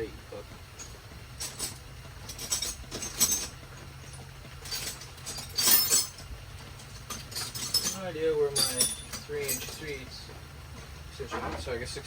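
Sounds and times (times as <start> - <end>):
low steady hum: 0.0 - 12.0
metal hand tools clattering: 0.8 - 11.7.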